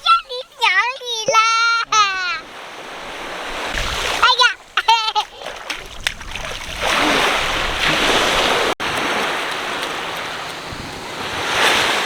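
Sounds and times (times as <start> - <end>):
waves washing up a beach: 1.7 - 12.0.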